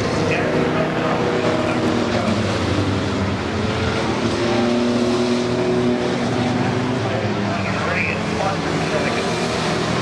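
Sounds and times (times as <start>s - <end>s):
racing truck engines: 0.0s - 10.0s.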